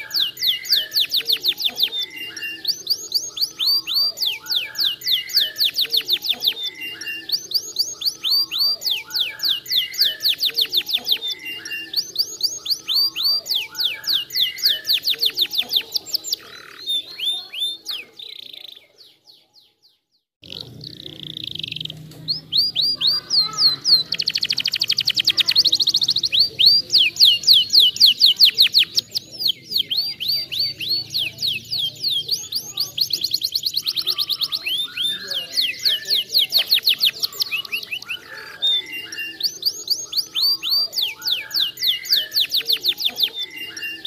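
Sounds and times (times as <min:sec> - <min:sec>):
canary singing: 0:00.0 - 0:44.0.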